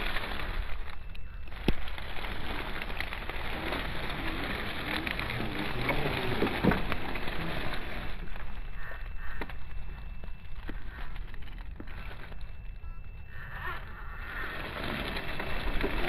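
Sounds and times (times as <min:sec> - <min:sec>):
twigs crackling and snapping: 0:00.0 - 0:16.0.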